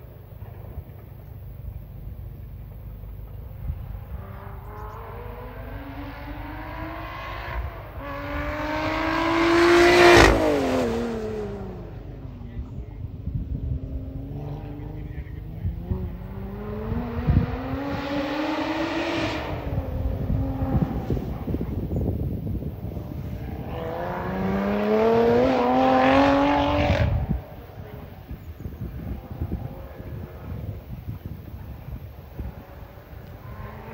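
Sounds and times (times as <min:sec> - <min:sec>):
car engine accelerating past: 0:03.6 - 0:12.8, 0:13.4 - 0:33.9.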